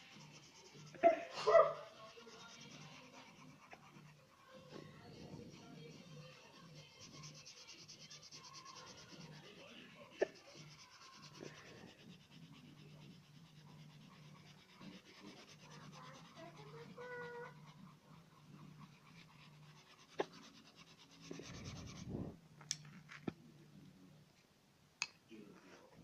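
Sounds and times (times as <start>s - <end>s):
pencil rubbing on paper: 0.0s - 22.4s.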